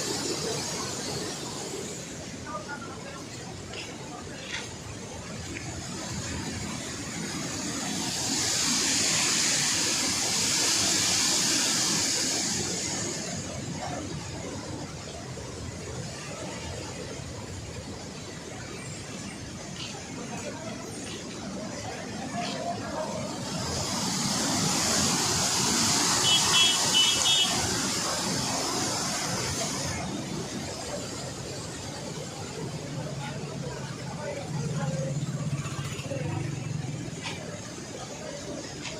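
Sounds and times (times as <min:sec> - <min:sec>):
rushing water through spillway: 0:00.0 - 0:38.9.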